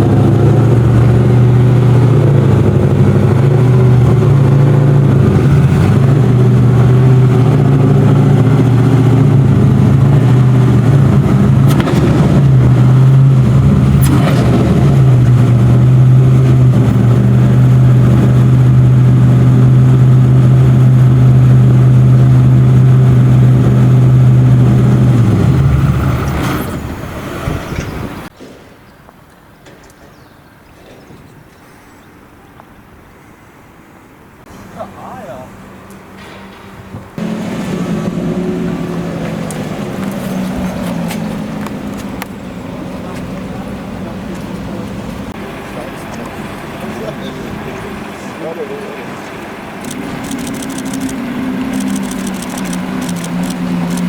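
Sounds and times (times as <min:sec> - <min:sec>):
car engine running loud: 0:00.0 - 0:28.3, 0:35.0 - 0:54.0.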